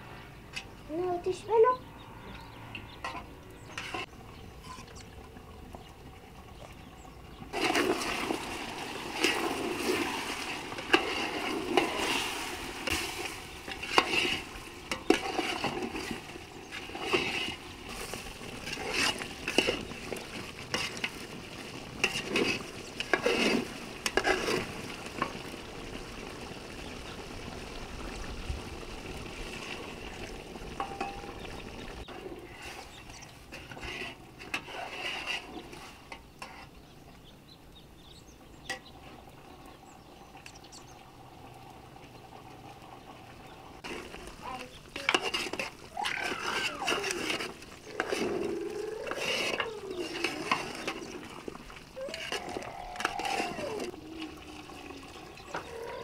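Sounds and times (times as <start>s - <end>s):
stirring and scraping in a pot: 2.4s - 27.4s, 28.1s - 37.3s, 38.6s - 56.0s
liquid sloshing: 3.7s - 36.6s, 42.8s - 56.0s.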